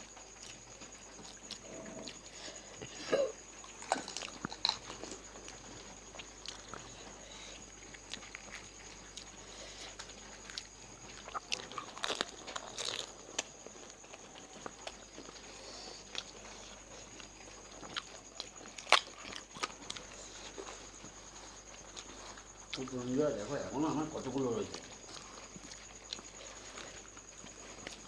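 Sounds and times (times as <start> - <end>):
wet chewing: 3.5 - 23.0, 24.7 - 28.0.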